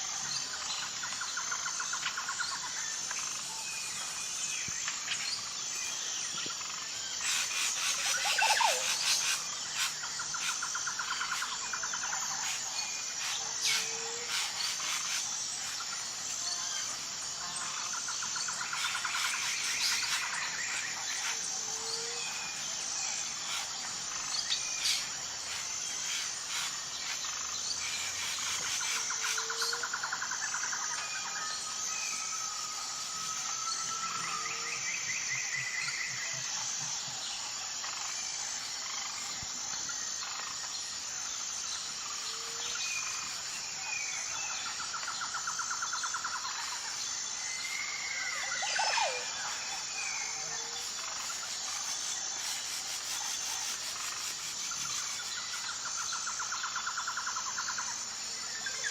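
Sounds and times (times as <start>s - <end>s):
pulsing insect drone: 0.0s - 58.9s.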